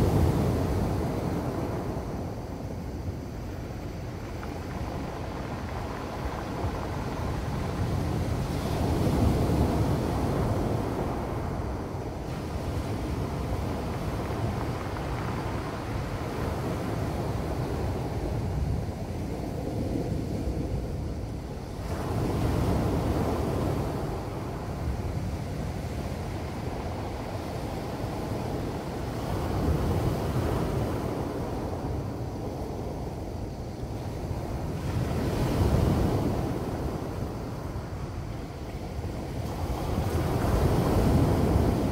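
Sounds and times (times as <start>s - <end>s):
waves breaking on cobble beach: 0.0s - 41.9s.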